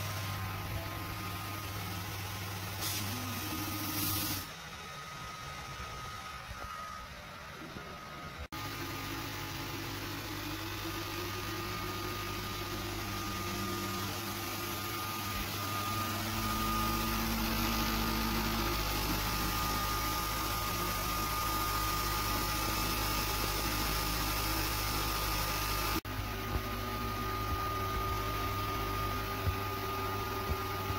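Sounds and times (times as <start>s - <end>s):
laser engraver running: 0.0s - 30.9s.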